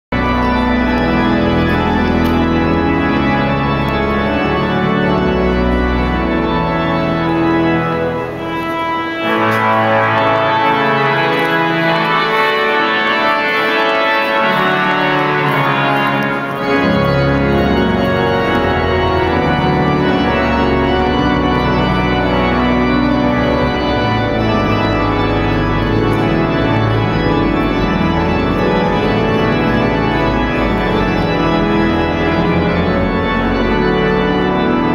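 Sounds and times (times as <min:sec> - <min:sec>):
pipe organ playing chords: 0:00.1 - 0:34.9.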